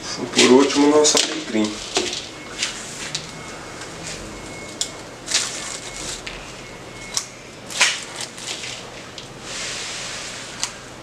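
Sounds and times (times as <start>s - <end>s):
herb sprigs rustling: 0.4s - 10.9s.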